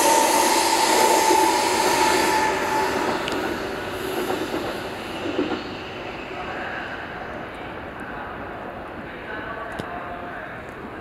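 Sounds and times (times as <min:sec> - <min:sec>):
train rushing rail noise: 0:00.0 - 0:11.0
train whine: 0:00.0 - 0:11.0.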